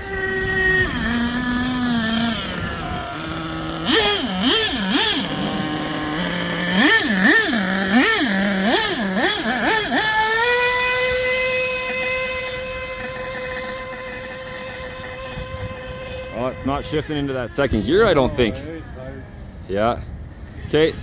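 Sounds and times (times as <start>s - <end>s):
nitro engine revving: 0.0s - 21.0s.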